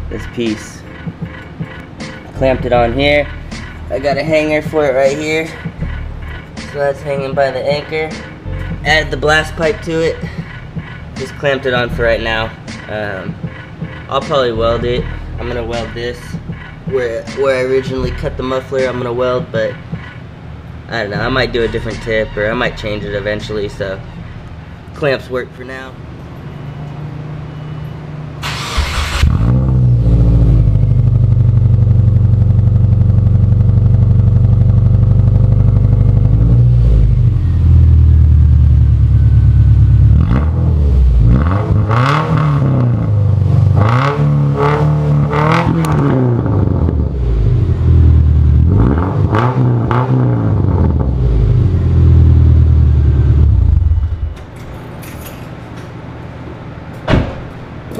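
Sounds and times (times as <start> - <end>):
car engine idling and revving: 0.0 - 25.0, 26.0 - 55.3.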